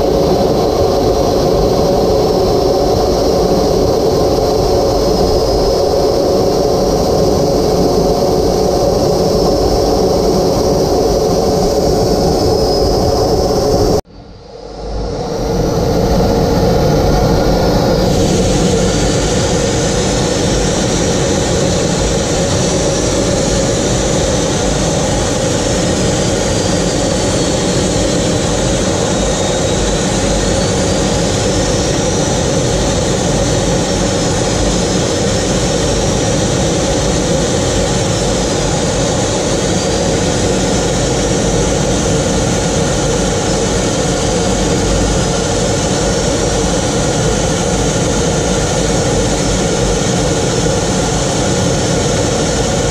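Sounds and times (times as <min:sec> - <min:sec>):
jet engine rush with high whine: 0:00.0 - 0:52.9.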